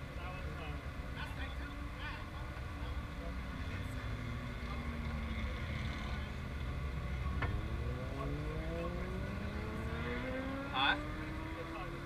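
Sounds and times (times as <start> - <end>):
distant race vehicle engines: 0.0 - 12.0.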